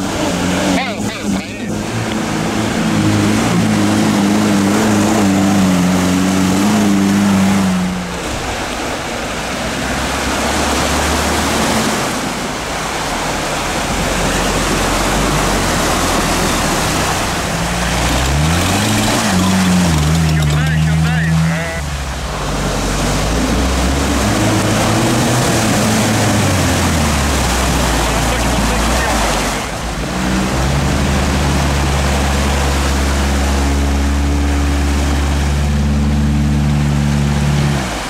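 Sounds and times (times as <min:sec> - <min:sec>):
car engines under load: 0:00.0 - 0:38.0
engine revving: 0:00.0 - 0:38.0
muddy water splashing: 0:00.0 - 0:38.0.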